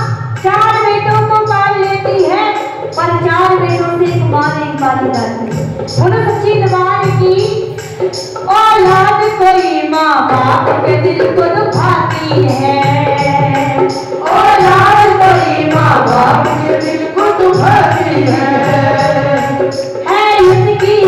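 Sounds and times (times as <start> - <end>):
woman singing devotional song: 0.0 - 7.8, 8.4 - 21.0
percussion beat: 0.0 - 21.0.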